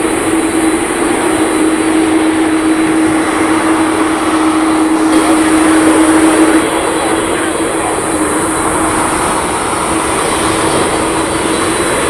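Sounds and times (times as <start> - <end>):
jet engine noise: 0.0 - 12.0.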